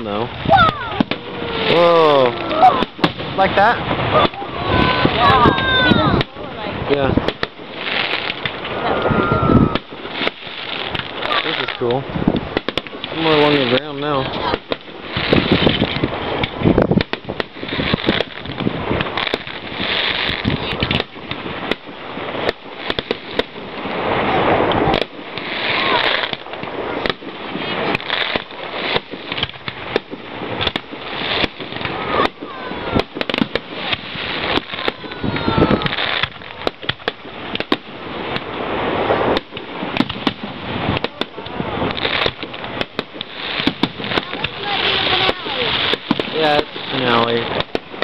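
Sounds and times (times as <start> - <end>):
firework bangs: 0.0 - 48.0
firework crackling: 0.0 - 48.0
rising firework whistles: 0.0 - 48.0.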